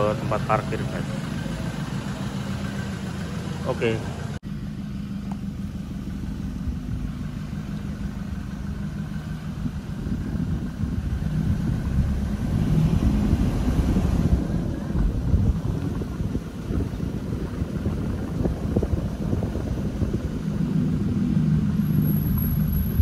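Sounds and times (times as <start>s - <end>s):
car engine running: 0.0s - 23.0s
road rumble: 0.0s - 23.0s.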